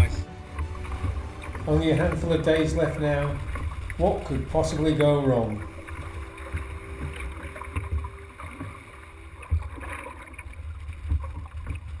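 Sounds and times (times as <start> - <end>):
water sloshing around boat: 0.0 - 12.0.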